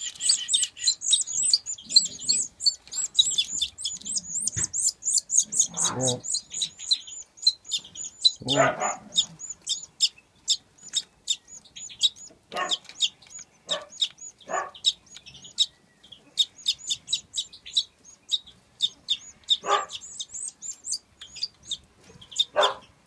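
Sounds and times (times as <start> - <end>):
birds chirping rapidly: 0.0 - 23.0.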